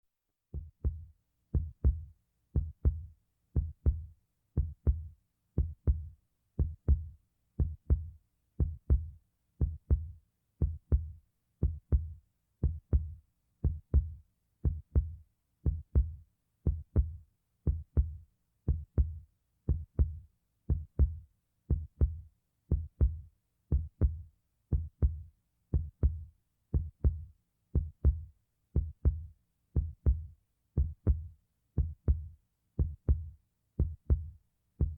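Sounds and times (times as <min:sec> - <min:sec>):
heartbeat thumps: 0:00.6 - 0:34.9.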